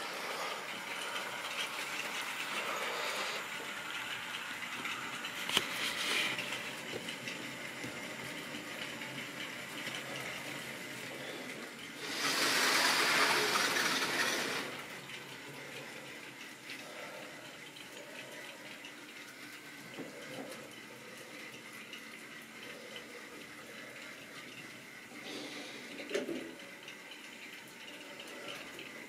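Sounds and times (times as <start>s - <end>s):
model trains running on track: 0.0s - 29.0s.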